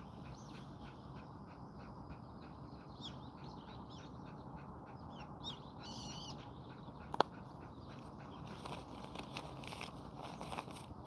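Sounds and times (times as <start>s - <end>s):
dog panting: 0.0s - 10.0s
faint bird calls: 0.0s - 10.6s.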